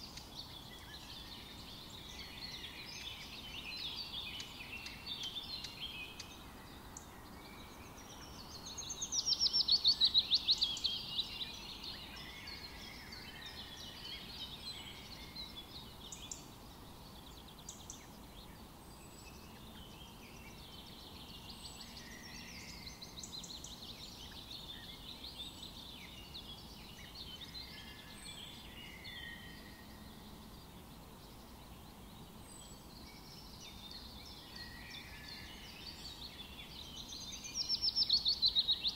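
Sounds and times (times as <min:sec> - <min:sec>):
birds calling and singing: 0:00.0 - 0:38.9
low outdoor hiss: 0:00.0 - 0:38.9.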